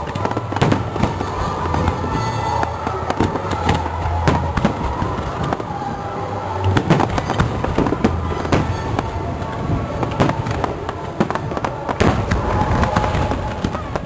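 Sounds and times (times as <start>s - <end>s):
crackling fireworks stars: 0.0s - 14.0s
fireworks bursting: 0.0s - 14.0s
loud fireworks bangs: 0.0s - 14.0s.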